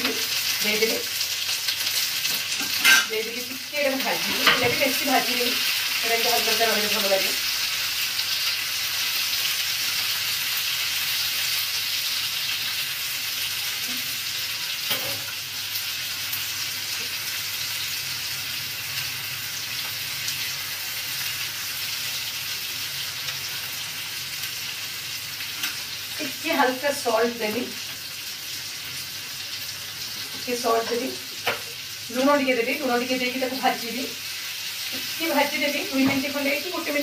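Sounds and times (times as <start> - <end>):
onions sizzling in hot oil: 0.0 - 37.0.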